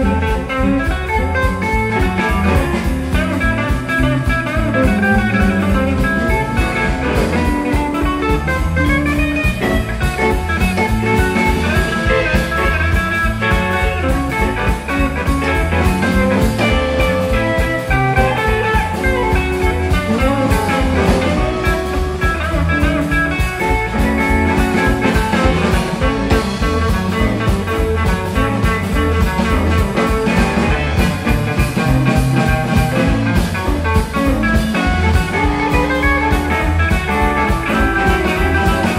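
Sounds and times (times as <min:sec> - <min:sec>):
drum kit beat: 0:00.0 - 0:38.9
electric bass: 0:00.0 - 0:38.9
electric guitars: 0:00.0 - 0:38.9.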